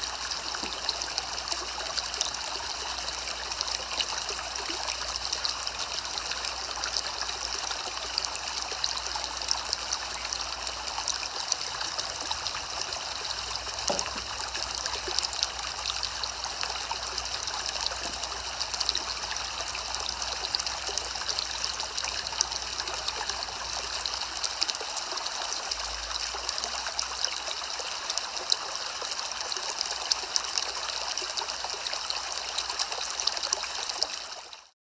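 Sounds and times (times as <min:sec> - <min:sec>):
soft rain falling: 0:00.0 - 0:34.6.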